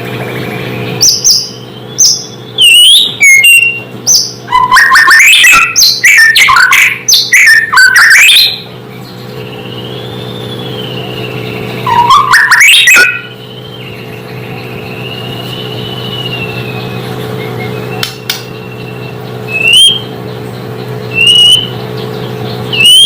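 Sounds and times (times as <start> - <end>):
steady low hum: 0.0 - 23.0
songbird singing varied song: 0.2 - 23.0.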